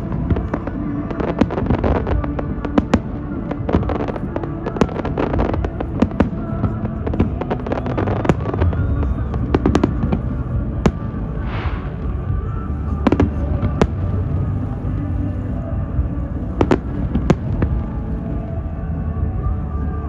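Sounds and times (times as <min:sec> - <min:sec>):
fireworks bangs and crackles: 0:00.0 - 0:20.0
low rumble: 0:00.0 - 0:20.0
music: 0:00.0 - 0:20.0.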